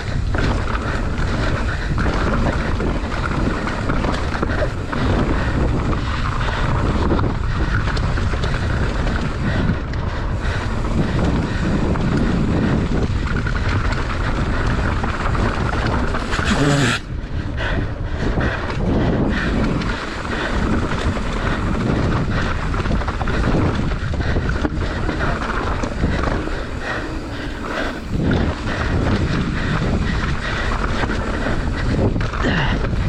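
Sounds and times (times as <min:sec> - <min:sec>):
bike rattling over rough ground: 0:00.0 - 0:33.0
rolling tyres: 0:00.0 - 0:33.0
wind rushing over microphone: 0:00.0 - 0:33.0.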